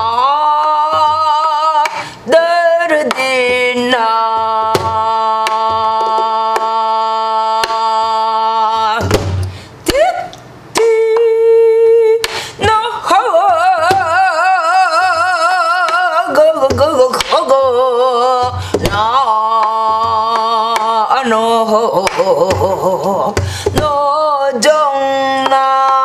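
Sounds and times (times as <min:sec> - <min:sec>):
woman singing wordless vocables: 0:00.0 - 0:26.0.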